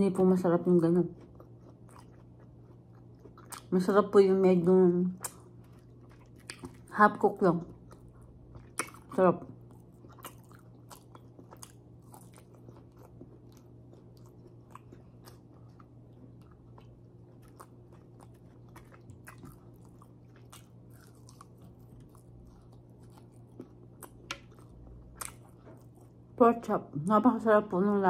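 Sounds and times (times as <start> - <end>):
faint steady hum: 0.0 - 28.0
chewing and biting: 1.1 - 3.8, 5.1 - 7.0, 7.6 - 26.4.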